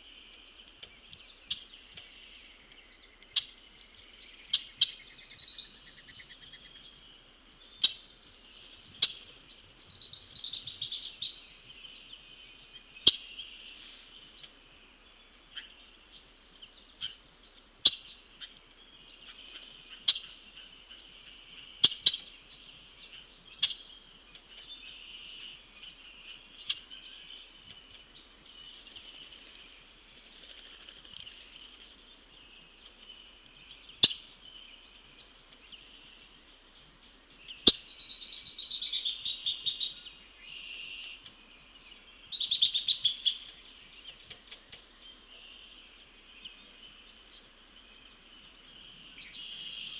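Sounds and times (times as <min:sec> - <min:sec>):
songbirds singing and chirping: 0:00.0 - 0:49.9.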